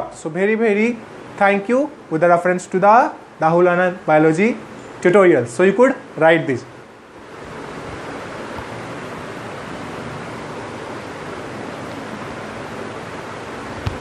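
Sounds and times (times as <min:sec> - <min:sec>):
steady hiss of noise: 0:00.0 - 0:14.0.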